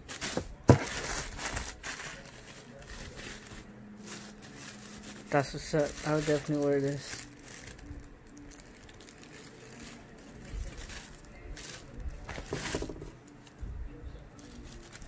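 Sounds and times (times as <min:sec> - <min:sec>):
clothes rustling: 0:00.0 - 0:13.2.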